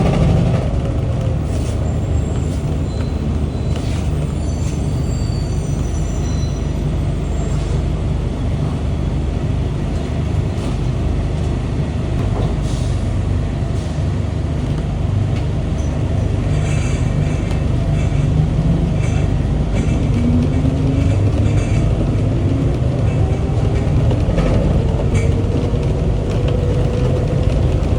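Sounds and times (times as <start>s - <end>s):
light-rail train rumbling: 0.0s - 27.9s.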